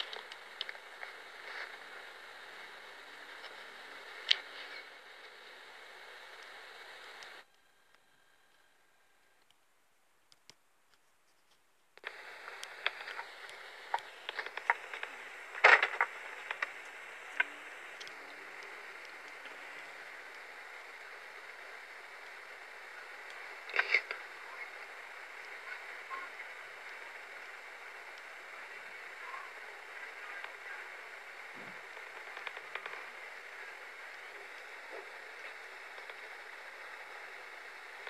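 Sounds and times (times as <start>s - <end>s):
crackles and clicks: 0.0s - 38.0s
static hiss: 0.0s - 38.0s.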